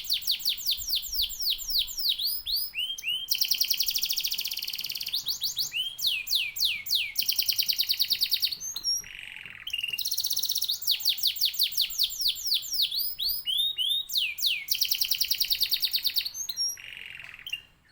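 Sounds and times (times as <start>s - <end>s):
canary singing trills: 0.0s - 17.9s.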